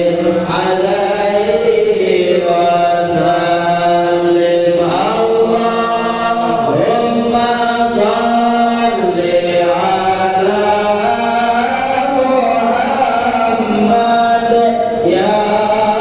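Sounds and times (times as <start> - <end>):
person chanting melodically: 0.0 - 16.0.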